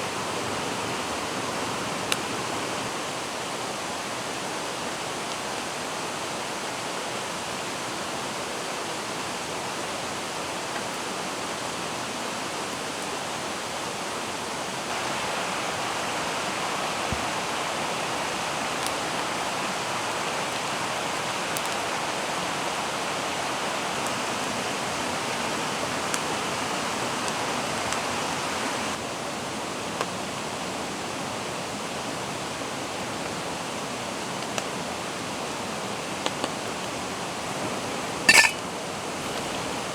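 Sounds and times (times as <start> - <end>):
mountain stream rushing: 0.0 - 29.1, 32.6 - 39.9.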